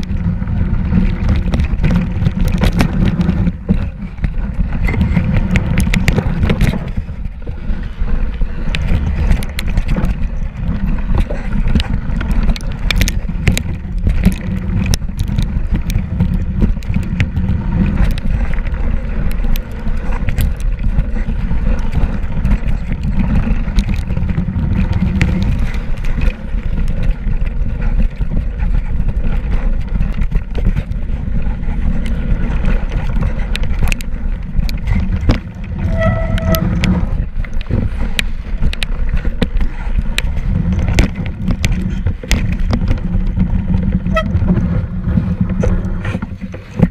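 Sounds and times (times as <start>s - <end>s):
bike rattling clicks and knocks: 0.0s - 46.9s
bike rumbling over ground: 0.0s - 46.9s.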